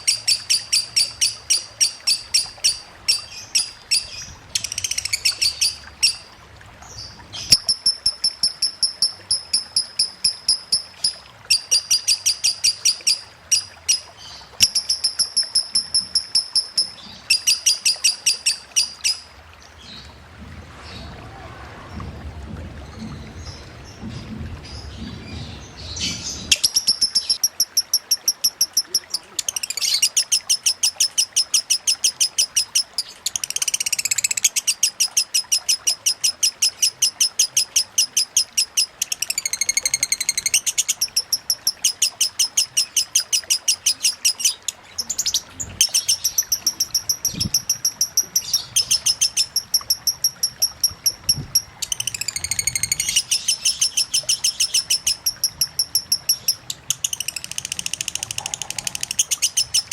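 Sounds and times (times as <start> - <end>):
bird ticking chirps and trills: 0.0 - 20.1, 23.4 - 59.9
faint running water: 0.0 - 59.9.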